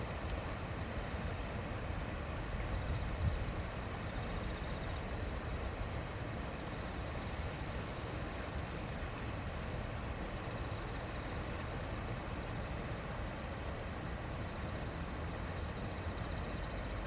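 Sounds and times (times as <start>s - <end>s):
shallow river babbling: 0.0s - 17.0s.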